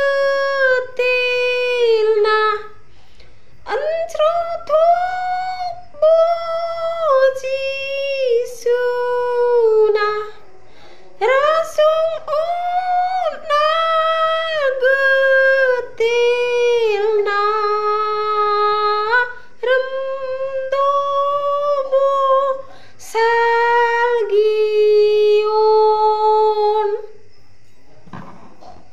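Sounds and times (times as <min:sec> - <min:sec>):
woman singing unaccompanied: 0:00.0 - 0:27.3.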